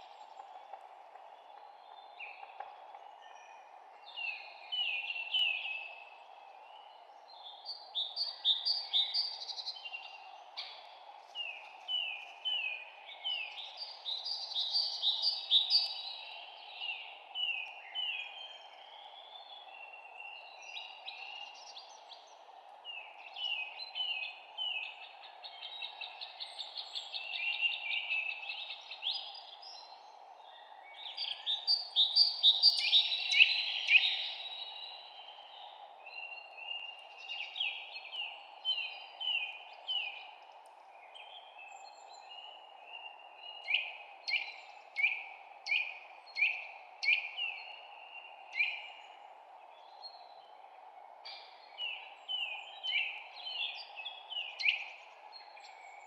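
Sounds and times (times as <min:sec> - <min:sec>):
songbirds chirping: 0:00.0 - 0:56.0
steady background hiss: 0:00.0 - 0:56.0.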